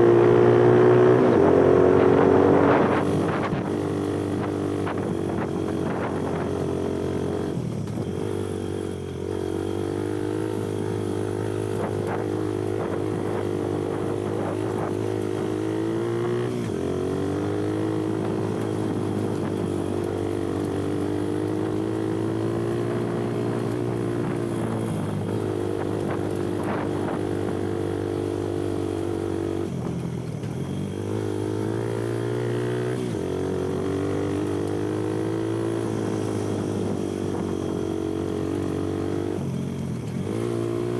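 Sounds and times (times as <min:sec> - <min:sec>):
dirt bike engine revving: 0:00.0 - 0:29.7, 0:30.4 - 0:40.9.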